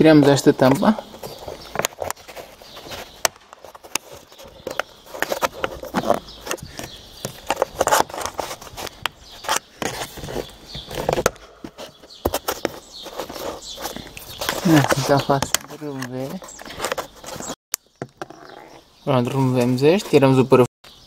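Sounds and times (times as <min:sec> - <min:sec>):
plastic trim rubbing: 0:00.6 - 0:17.6.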